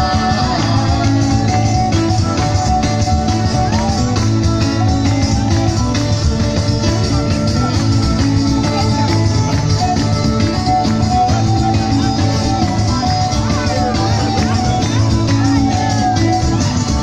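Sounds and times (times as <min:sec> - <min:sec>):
acoustic guitar: 0:00.0 - 0:17.0
live band playing: 0:00.0 - 0:17.0.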